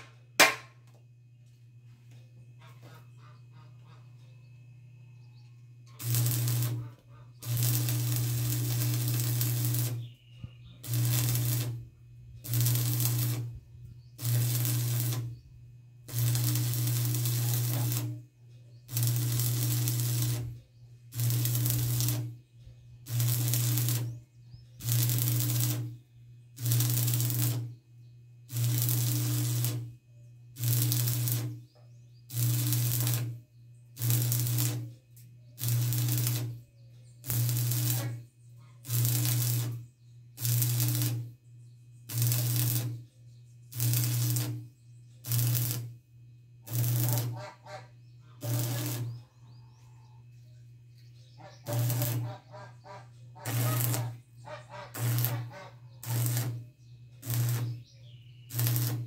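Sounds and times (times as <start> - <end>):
arc welder crackling hiss: 0.0 - 0.8, 5.9 - 27.8, 28.4 - 41.4, 42.0 - 43.0, 43.7 - 46.0, 46.6 - 49.2, 51.4 - 59.0
steady electrical hum: 0.0 - 59.0.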